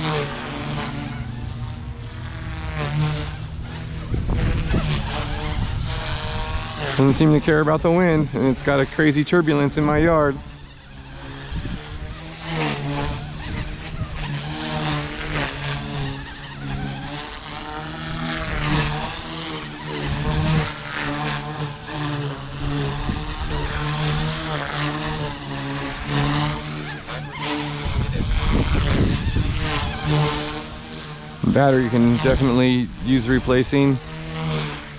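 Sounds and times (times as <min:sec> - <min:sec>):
wind buffeting microphone: 0:00.0 - 0:34.8
rc helicopter rotor whine: 0:00.0 - 0:34.9.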